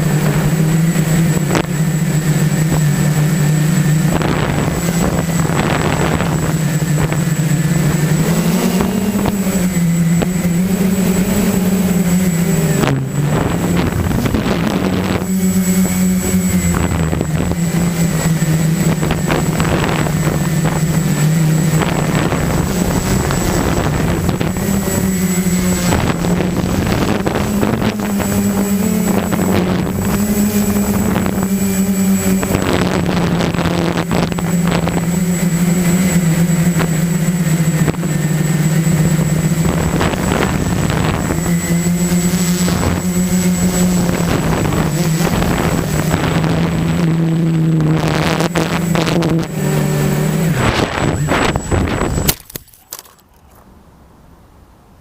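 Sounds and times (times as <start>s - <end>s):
rushing air gusts: 0.0s - 52.4s
quadcopter motors buzzing: 0.0s - 53.7s.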